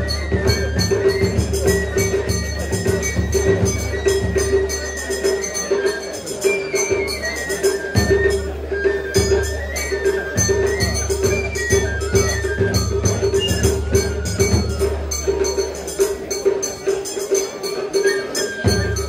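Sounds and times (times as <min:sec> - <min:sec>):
high flute melody: 0:00.0 - 0:19.0
metallic strikes and drums: 0:00.0 - 0:19.0.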